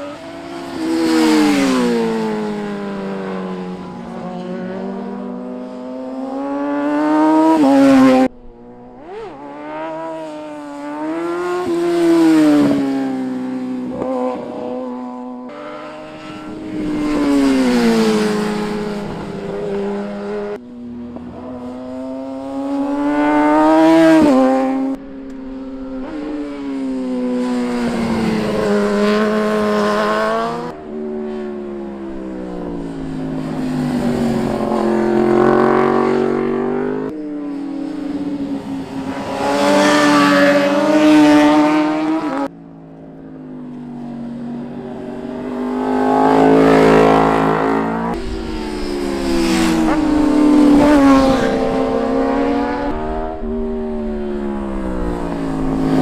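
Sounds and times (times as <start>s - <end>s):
motorcycles passing by: 0.0s - 56.0s.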